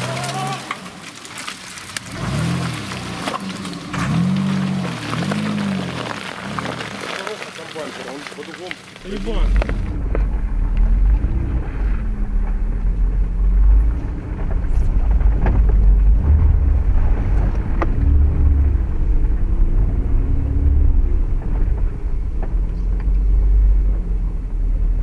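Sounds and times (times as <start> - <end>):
engine rumbling under load: 0.0 - 25.0.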